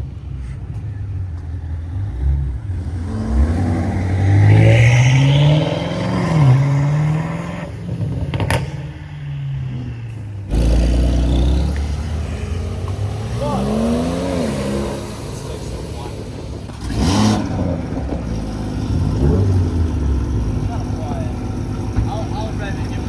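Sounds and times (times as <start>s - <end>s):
car engine revving: 0.0s - 23.0s
deep engine rumble: 0.0s - 23.0s.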